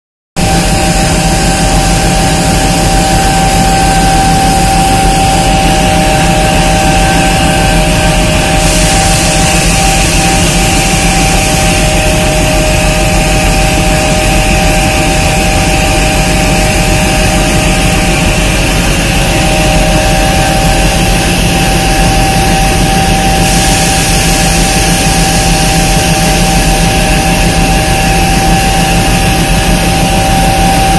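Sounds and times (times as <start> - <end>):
continuous high whine: 0.4 - 30.9
diesel locomotive engine running: 0.4 - 30.9.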